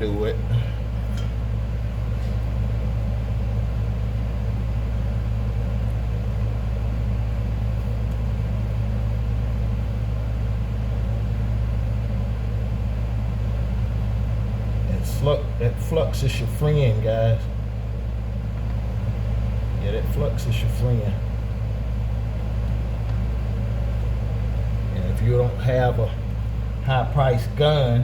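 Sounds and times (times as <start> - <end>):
low droning hum: 0.0 - 28.0.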